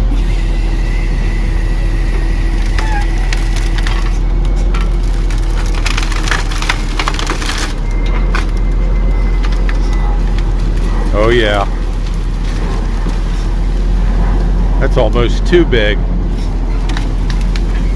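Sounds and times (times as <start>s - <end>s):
truck engine idling: 0.0s - 17.9s
branches cracking: 2.0s - 17.9s.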